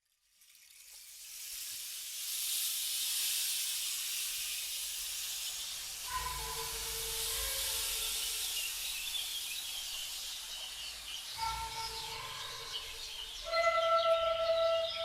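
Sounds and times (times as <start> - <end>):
steady high hiss: 1.9 - 15.0.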